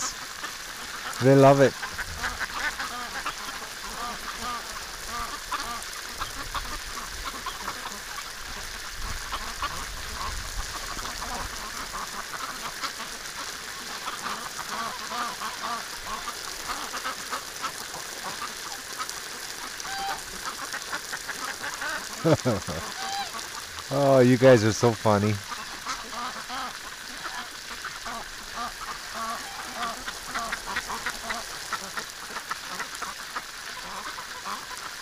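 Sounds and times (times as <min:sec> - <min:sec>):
ducks quacking: 0:00.0 - 0:35.0
garden hose spraying water: 0:00.0 - 0:35.0.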